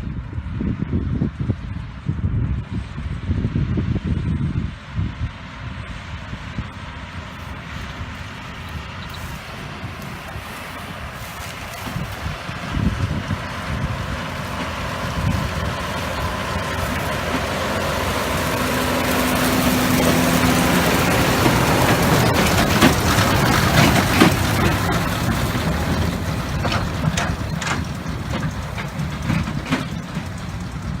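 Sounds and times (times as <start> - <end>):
tractor diesel engine: 0.0 - 31.0.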